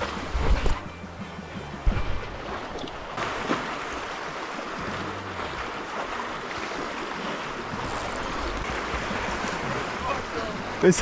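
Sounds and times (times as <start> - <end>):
sea noise: 0.0 - 11.0.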